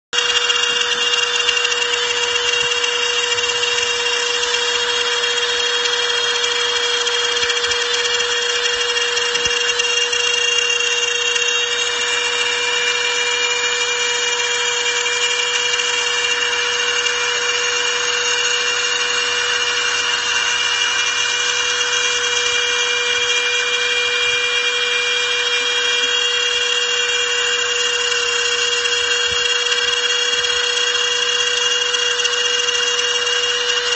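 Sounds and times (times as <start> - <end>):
router spindle high whine: 0.1 - 33.9.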